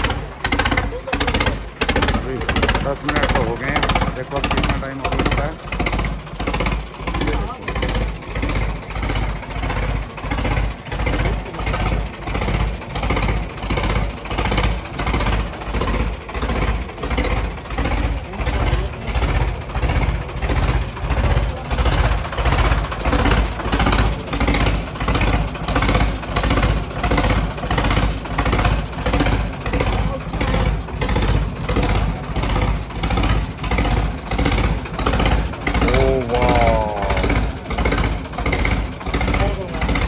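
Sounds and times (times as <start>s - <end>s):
tractor diesel engine running hard: 0.0s - 40.0s.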